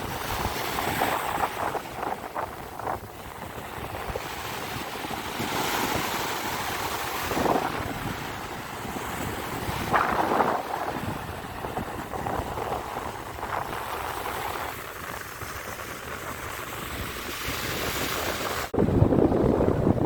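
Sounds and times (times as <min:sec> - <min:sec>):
sea waves on a beach: 0:00.0 - 0:20.0
wind buffeting microphone: 0:00.0 - 0:20.0.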